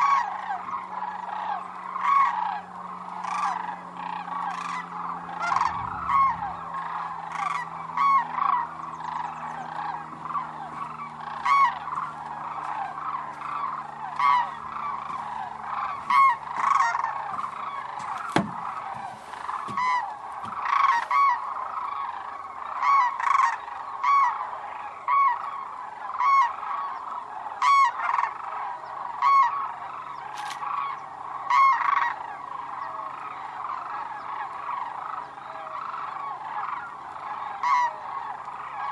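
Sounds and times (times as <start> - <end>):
flock of cranes calling: 0.0 - 38.9
loud single crane calls: 0.0 - 38.9.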